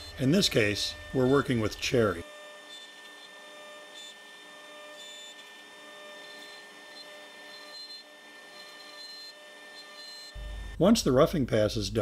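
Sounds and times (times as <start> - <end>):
router spindle whining: 0.0 - 10.9.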